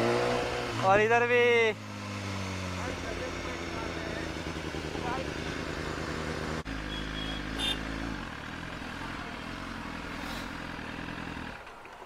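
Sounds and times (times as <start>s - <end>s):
motorcycle engine idling: 1.8s - 11.9s.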